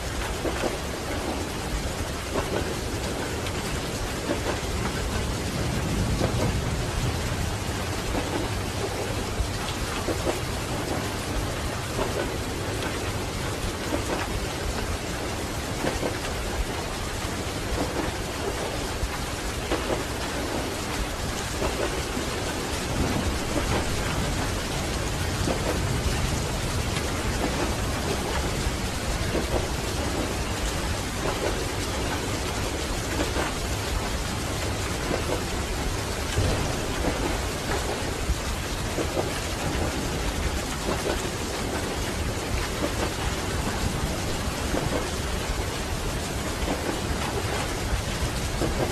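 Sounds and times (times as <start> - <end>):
rain on train window: 0.0 - 48.9
train rumbling along track: 0.0 - 48.9.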